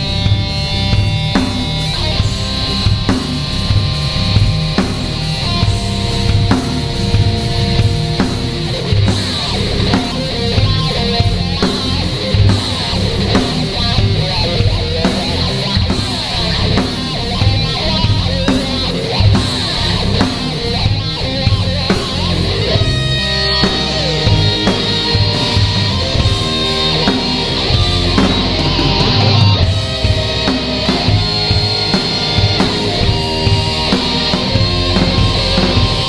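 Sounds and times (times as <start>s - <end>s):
drum kit beat: 0.0s - 36.0s
electric guitar: 0.0s - 36.0s.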